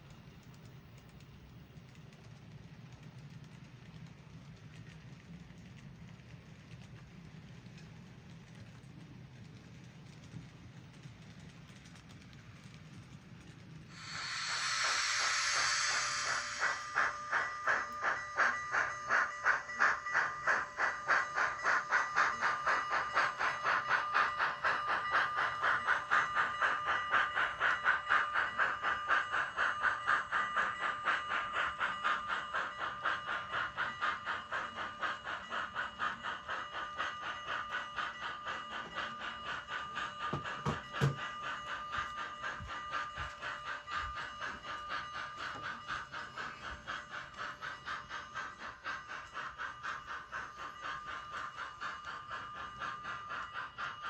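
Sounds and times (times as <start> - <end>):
steam locomotive chuffs with hiss: 0.0 - 54.0.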